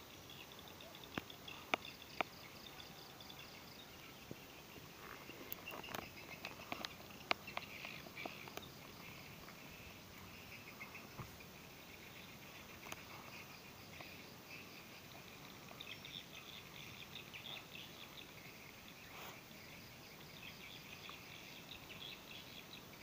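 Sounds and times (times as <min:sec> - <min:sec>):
insects and birds chirping: 0:00.0 - 0:23.0.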